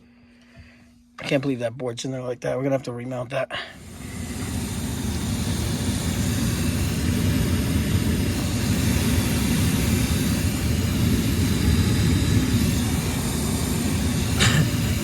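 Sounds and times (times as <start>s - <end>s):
furnace fan whirring: 0.0s - 15.0s.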